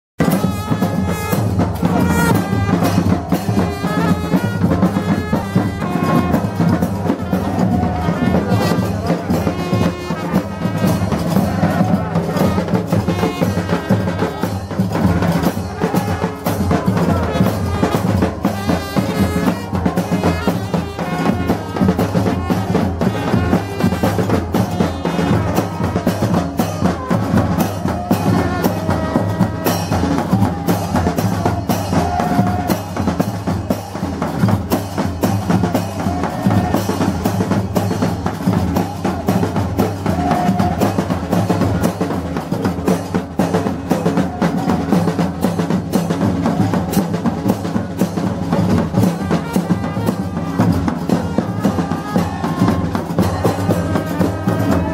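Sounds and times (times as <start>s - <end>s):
field drums and bass drum: 0.2s - 54.9s
trumpet and saxophone: 0.2s - 54.9s.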